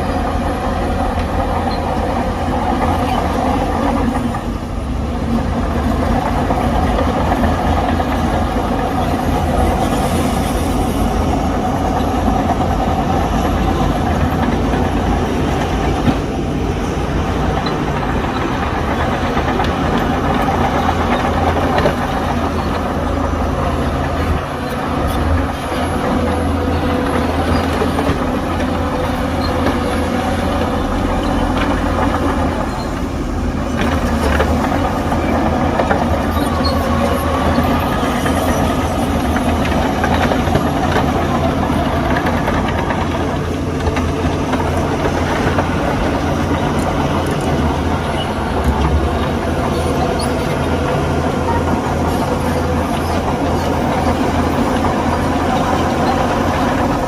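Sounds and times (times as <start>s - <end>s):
heavy machinery diesel engine drone: 0.0s - 57.0s.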